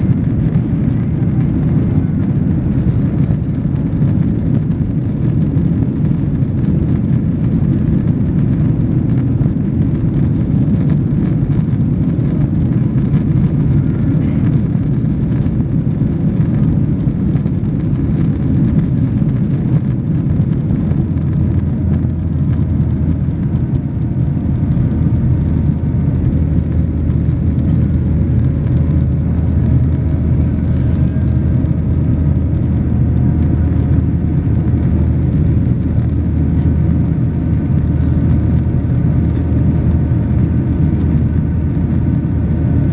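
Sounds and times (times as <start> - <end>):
airplane cabin engine rumble: 0.0 - 42.9.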